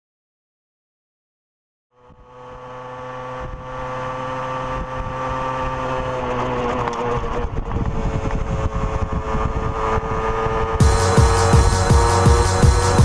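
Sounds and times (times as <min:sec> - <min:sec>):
motorcycle engine running: 0:01.9 - 0:13.0
wind and road noise: 0:01.9 - 0:13.0.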